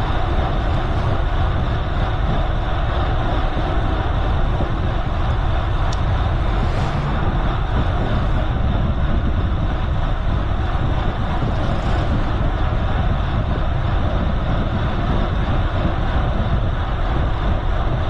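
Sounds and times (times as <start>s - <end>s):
tyres rolling on road: 0.0s - 18.0s
wind rushing over microphone: 0.0s - 18.0s.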